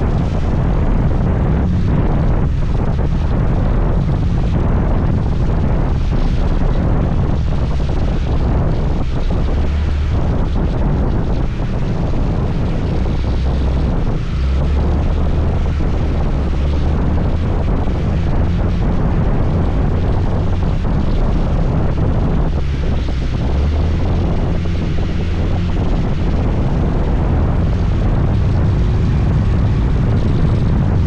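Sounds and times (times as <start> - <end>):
road and rain noise: 0.0 - 31.0
scooter engine drone: 0.0 - 31.0
wind rumble on microphone: 0.0 - 31.0.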